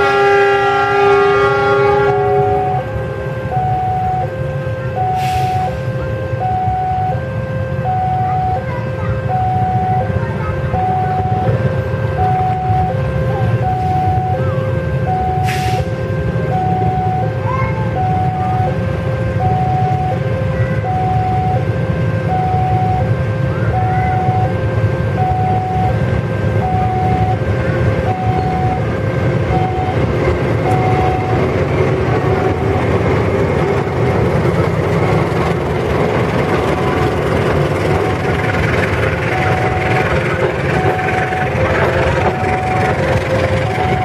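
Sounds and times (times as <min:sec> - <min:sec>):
crossing alarm two alternating tones: 0:00.0 - 0:44.0
train rumbling past: 0:00.0 - 0:44.0.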